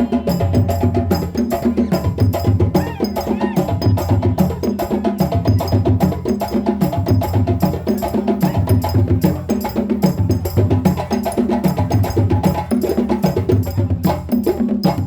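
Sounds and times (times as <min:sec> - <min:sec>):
djembe drum ensemble: 0:00.0 - 0:15.0.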